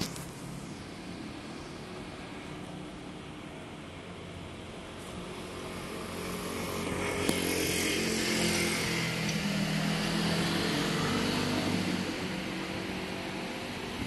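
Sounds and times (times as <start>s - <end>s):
road hiss: 0.0s - 14.0s.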